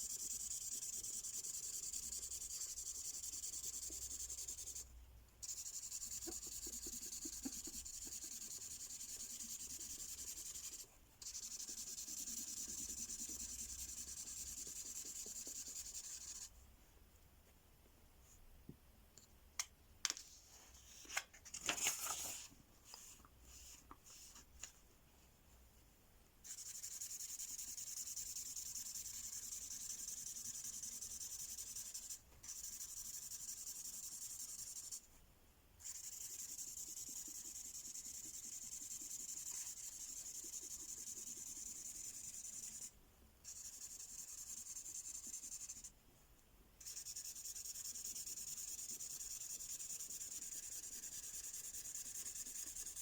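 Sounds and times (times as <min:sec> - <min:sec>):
marker pen scratching on paper: 0:00.0 - 0:16.5, 0:20.5 - 0:24.5, 0:26.4 - 0:35.0, 0:35.8 - 0:46.0, 0:46.8 - 0:53.0.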